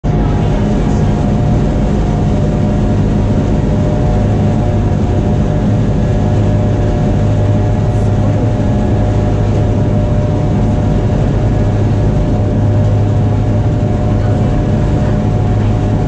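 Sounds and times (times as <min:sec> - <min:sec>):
steady higher tone: 0:00.0 - 0:14.5
boat engine droning: 0:00.0 - 0:16.0.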